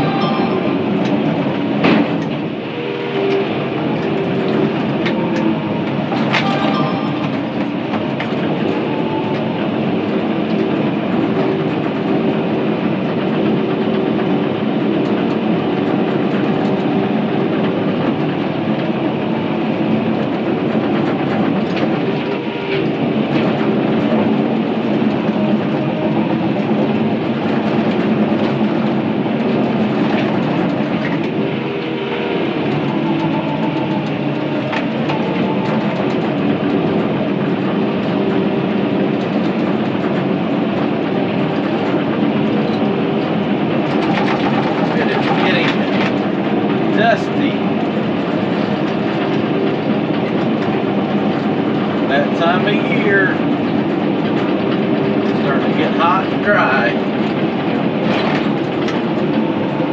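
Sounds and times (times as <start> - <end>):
bulldozer engine working: 0.0 - 59.9
steel tracks clanking: 0.0 - 59.9.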